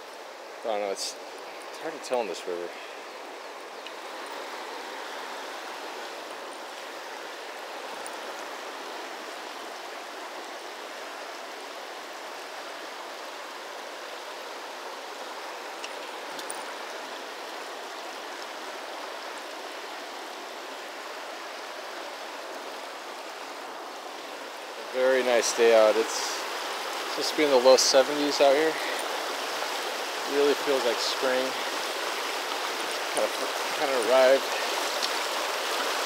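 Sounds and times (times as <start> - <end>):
shallow river rushing over gravel: 0.0 - 36.0.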